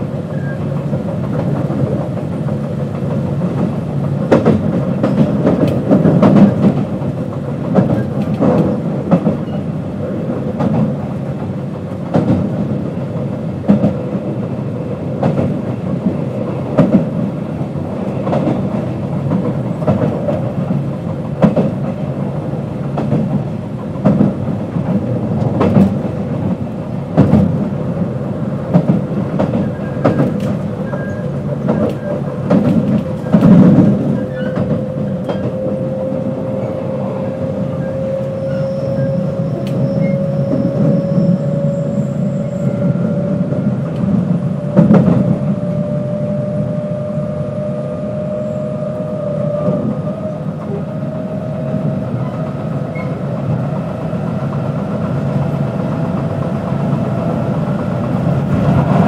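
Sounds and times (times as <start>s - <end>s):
train wheels clicking over rail joints: 0.0s - 48.4s, 49.5s - 59.0s
electric train running hum: 0.0s - 59.0s.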